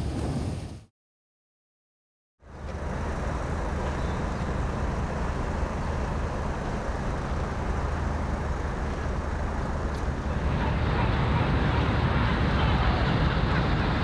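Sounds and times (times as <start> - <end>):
engine rumble with low hum: 2.4 - 14.0.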